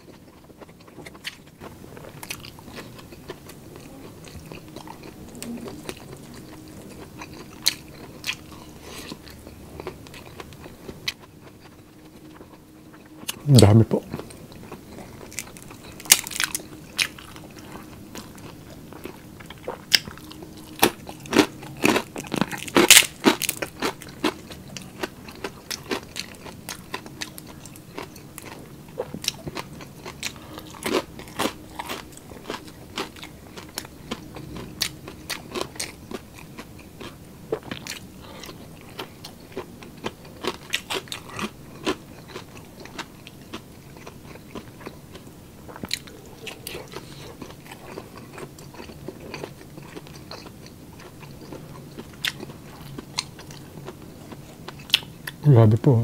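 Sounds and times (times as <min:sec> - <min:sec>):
person chewing and crunching: 0:00.0 - 0:55.4.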